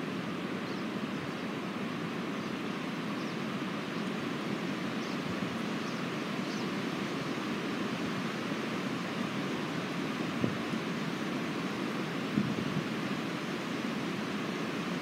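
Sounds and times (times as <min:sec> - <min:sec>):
wind rushing through trees: 0:00.0 - 0:15.0.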